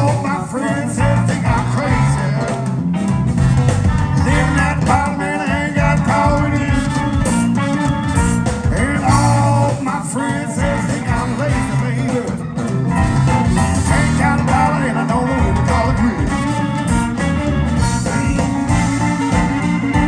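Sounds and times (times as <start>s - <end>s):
electric guitar: 0.0s - 20.0s
live band playing blues: 0.0s - 20.0s.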